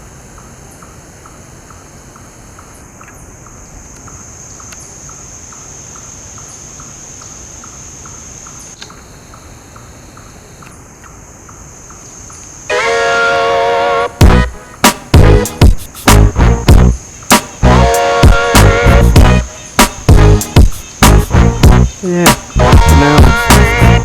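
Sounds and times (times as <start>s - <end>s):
insect chirping: 0.0s - 24.0s
insect high-pitched drone: 0.0s - 24.0s.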